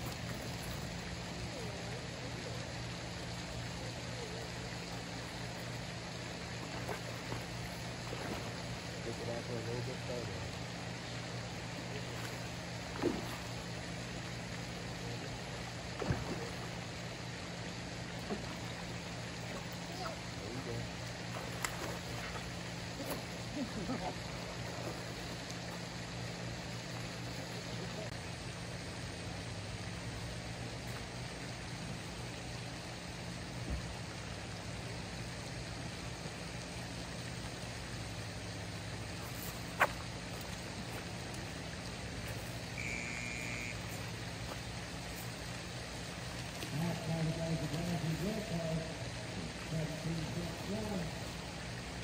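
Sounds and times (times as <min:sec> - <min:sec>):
fountain water splashing: 0:00.0 - 0:52.0
low hum: 0:00.0 - 0:52.0
outdoor background hiss: 0:00.0 - 0:52.0.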